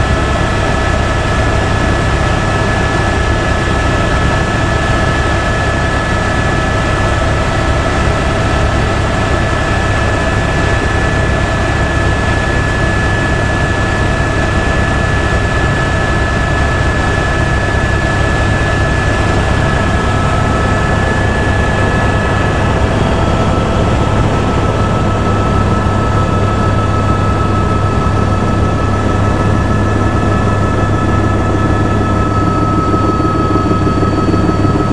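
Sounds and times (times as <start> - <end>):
helicopter drone: 0.0 - 34.9
high turbine whine: 0.0 - 34.9.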